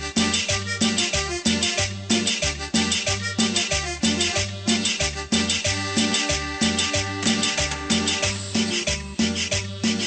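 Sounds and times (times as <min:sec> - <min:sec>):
dance music over sound system: 0:00.0 - 0:10.0.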